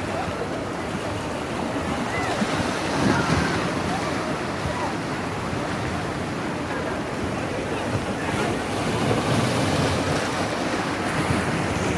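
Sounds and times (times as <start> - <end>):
sea waves on shore: 0.0 - 11.9.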